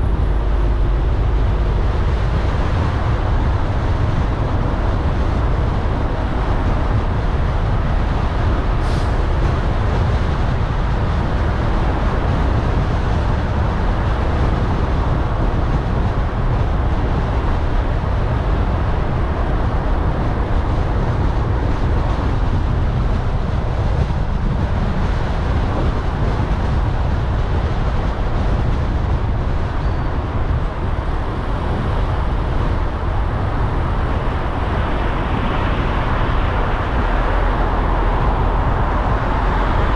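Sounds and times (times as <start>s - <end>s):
car driving in traffic: 0.0s - 39.9s.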